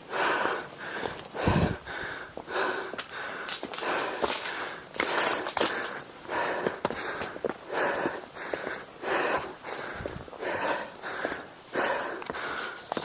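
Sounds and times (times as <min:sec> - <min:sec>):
footsteps on trail: 0:00.0 - 0:13.0
heavy quick breathing: 0:00.1 - 0:13.0.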